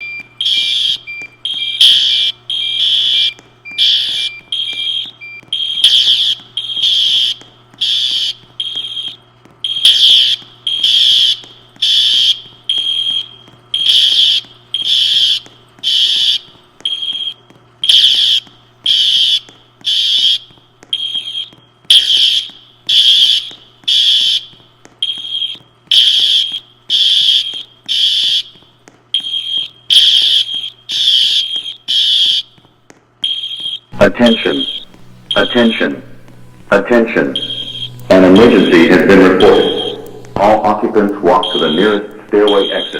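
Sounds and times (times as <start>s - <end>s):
fire alarm horn pulsing: 0.0s - 42.9s.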